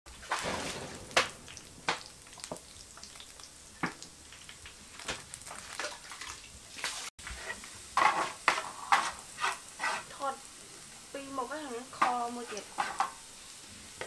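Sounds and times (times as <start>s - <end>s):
garlic sizzling in oil: 0.1s - 14.0s.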